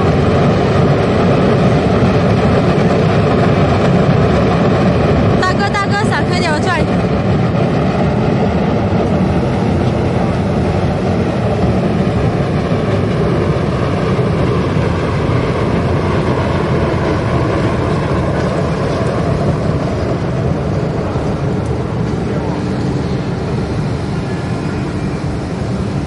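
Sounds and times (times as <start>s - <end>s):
burner flame deep rushing: 0.0s - 26.0s.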